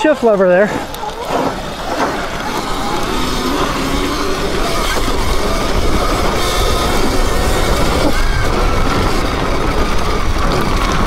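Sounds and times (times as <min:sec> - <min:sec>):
electric motor whine: 0:00.0 - 0:11.0
wind rumble on microphone: 0:00.0 - 0:11.0.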